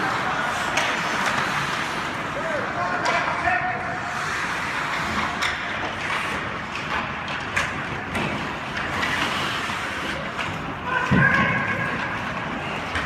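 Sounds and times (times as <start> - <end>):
murmur of crowd and play: 0.0 - 13.0.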